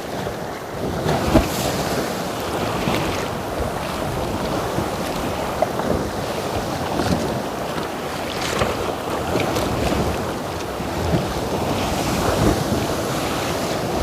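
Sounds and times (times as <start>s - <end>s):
water sloshing around a kayak: 0.0s - 14.0s
wind buffeting microphone: 0.1s - 14.0s.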